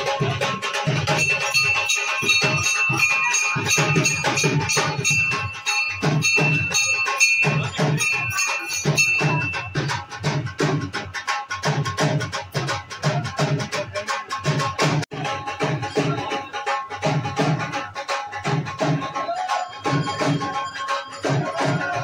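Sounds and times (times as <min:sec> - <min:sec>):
music with drum beat: 0:00.0 - 0:22.0.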